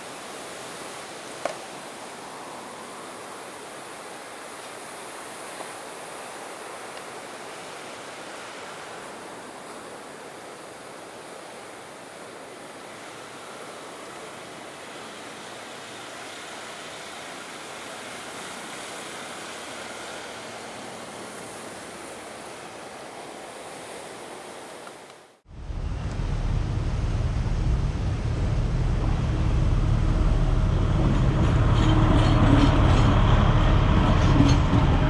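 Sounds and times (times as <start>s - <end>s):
steady rushing background noise: 0.0s - 35.0s.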